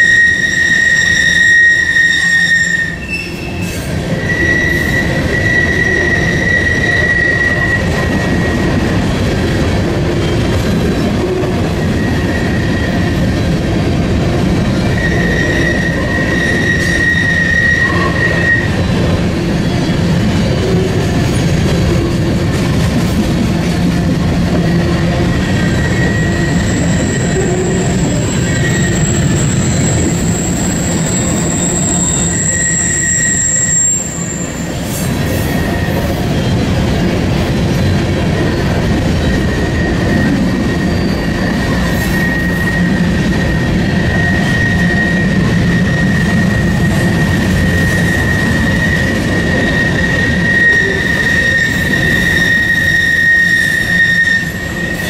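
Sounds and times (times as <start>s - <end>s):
high-pitched wheel squeal: 0.0s - 8.9s, 14.7s - 21.6s, 24.3s - 55.0s
train wheels rumbling on rail: 0.0s - 55.0s.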